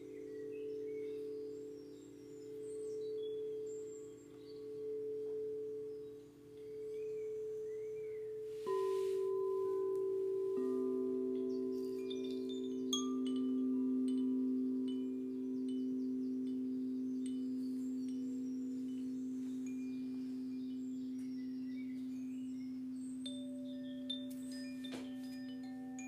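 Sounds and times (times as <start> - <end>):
high chime tinkles: 0.0 - 26.0
higher singing bowl tone: 0.0 - 26.0
singing bowl humming: 0.0 - 26.0.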